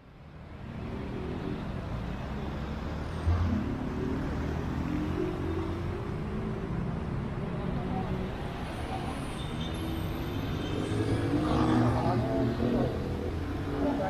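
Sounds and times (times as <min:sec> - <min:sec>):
car and bus engines passing: 0:00.0 - 0:14.0.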